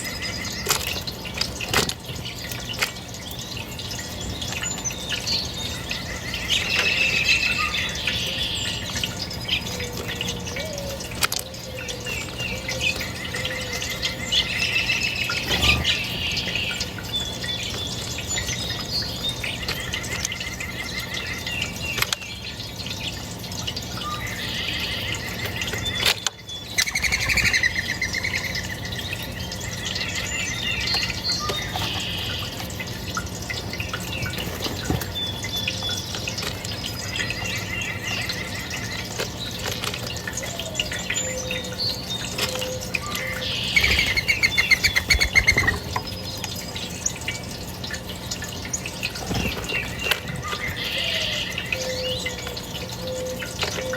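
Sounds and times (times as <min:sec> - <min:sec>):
birds chirping and singing: 0:00.0 - 0:53.9.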